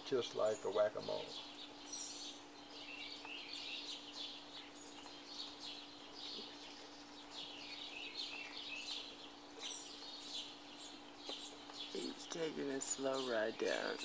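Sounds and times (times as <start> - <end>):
birds chirping: 0.0 - 14.0
faint steady hum: 0.0 - 14.0.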